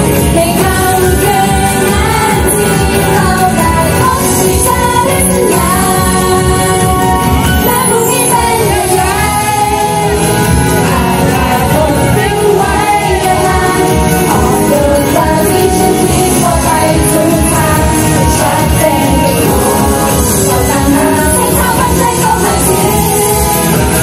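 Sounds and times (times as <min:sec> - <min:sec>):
backing music with steady beat: 0:00.0 - 0:24.0
women singing pop song: 0:00.0 - 0:24.0.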